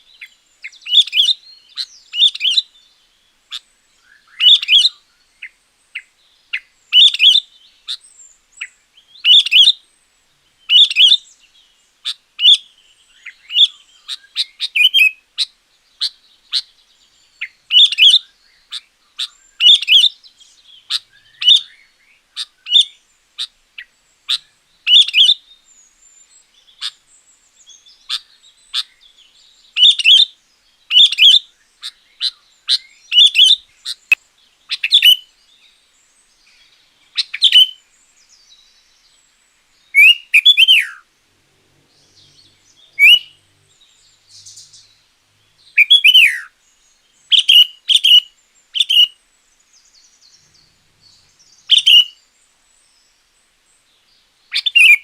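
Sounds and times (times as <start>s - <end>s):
bird singing chirps and whistles: 0.0s - 2.8s, 3.5s - 9.8s, 10.7s - 11.6s, 12.4s - 23.0s, 24.3s - 27.0s, 27.6s - 35.8s, 36.4s - 39.2s, 39.8s - 41.1s, 41.9s - 52.2s, 54.5s - 55.0s.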